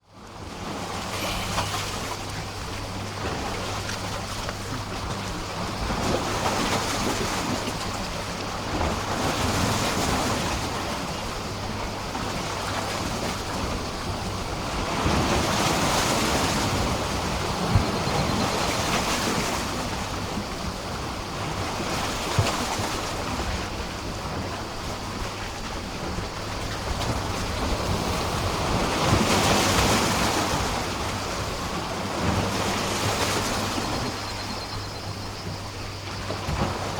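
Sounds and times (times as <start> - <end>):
waves splashing against a pier: 0.4 - 34.2.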